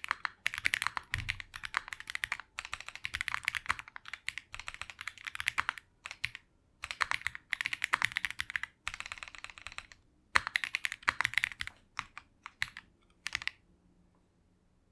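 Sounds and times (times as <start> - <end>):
mechanical keyboard typing: 0.0 - 13.6.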